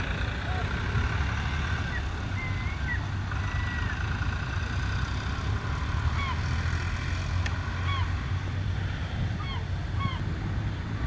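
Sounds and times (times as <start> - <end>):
tractor engines idling: 0.0 - 11.0.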